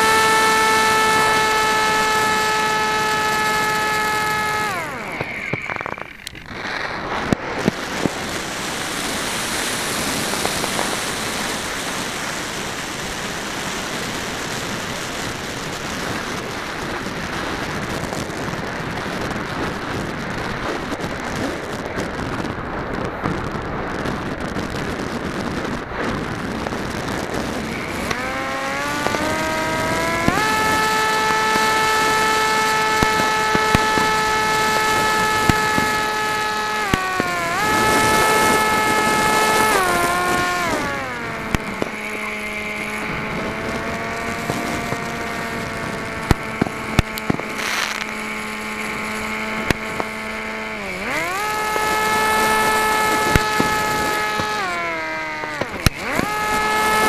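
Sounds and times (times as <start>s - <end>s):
propeller motor whine: 0.0s - 57.0s
wind rushing over microphone: 0.0s - 57.0s.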